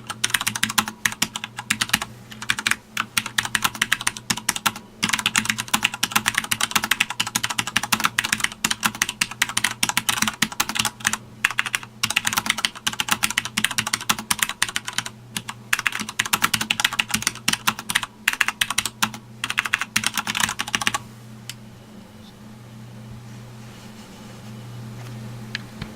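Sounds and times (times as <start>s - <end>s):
mechanical keyboard typing: 0.0s - 21.0s
steady low hum: 0.0s - 25.9s.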